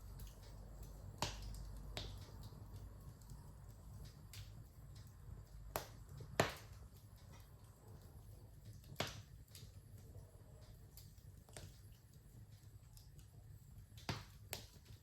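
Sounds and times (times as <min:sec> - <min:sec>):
low steady fire rumble: 0:00.0 - 0:15.0
wood fire crackling: 0:00.0 - 0:15.0.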